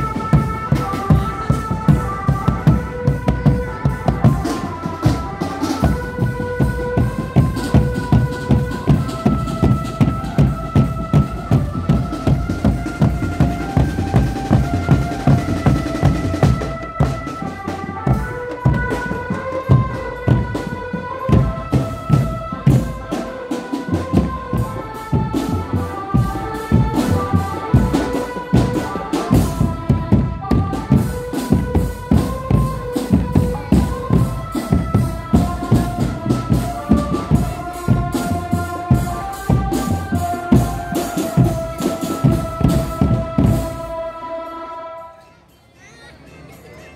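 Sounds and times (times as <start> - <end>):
drum band music: 0.0 - 44.2.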